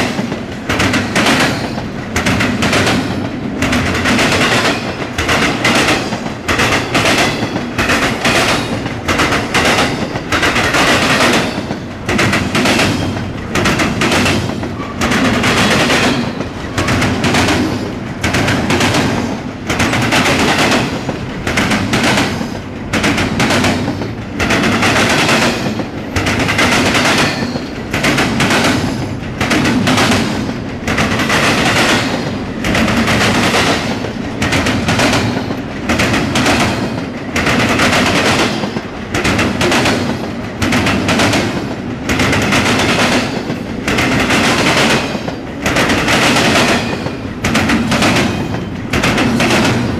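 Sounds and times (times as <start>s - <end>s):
train wheels clattering over track: 0.0s - 49.9s.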